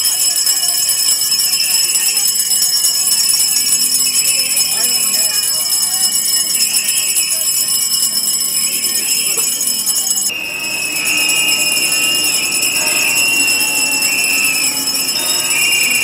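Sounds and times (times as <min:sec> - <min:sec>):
crowd blowing whistles: 0:00.0 - 0:16.0
handbells ringing: 0:00.0 - 0:16.0.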